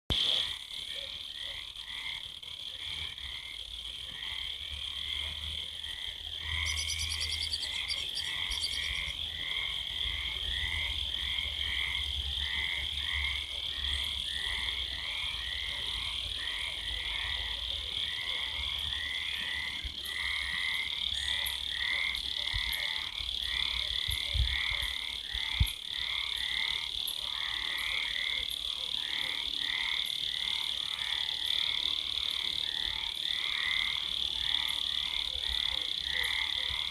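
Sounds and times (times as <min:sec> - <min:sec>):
frogs croaking: 0:00.1 - 0:36.9
high-pitched cricket chorus: 0:00.1 - 0:36.9.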